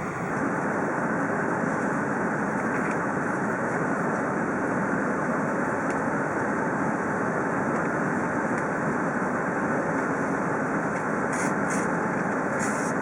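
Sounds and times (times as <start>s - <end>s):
jet engine roar in cabin: 0.0s - 13.0s.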